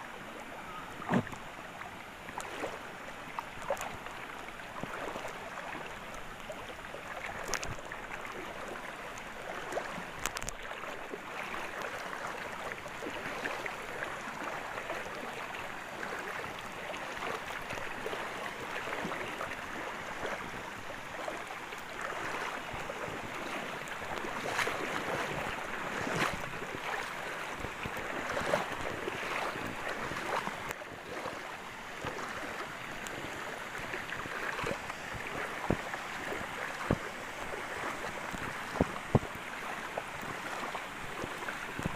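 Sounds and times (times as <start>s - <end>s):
fast-flowing river rushing: 0.0s - 41.9s.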